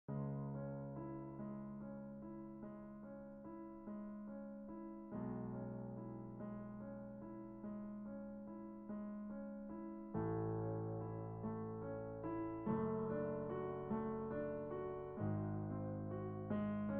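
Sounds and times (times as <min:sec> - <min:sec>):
piano music: 0:00.1 - 0:16.9.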